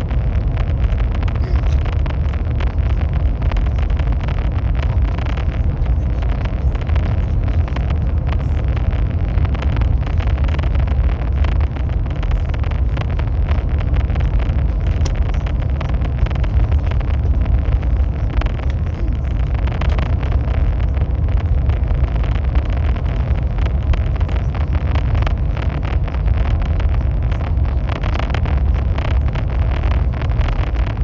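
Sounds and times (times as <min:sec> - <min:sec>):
high-speed train rumbling: 0:00.0 - 0:31.0.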